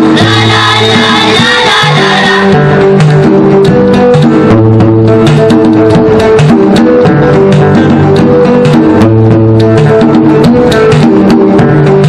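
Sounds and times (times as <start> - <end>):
plucked banjo melody: 0.0 - 12.0.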